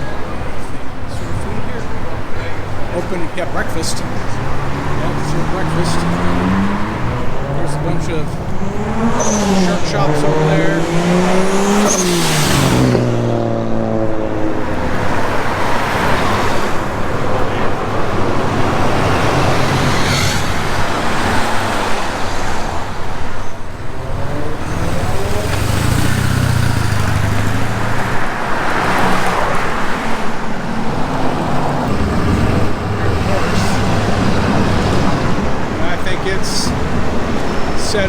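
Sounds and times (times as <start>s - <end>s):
road noise: 0.0s - 38.0s
vehicle engines passing: 0.0s - 38.0s.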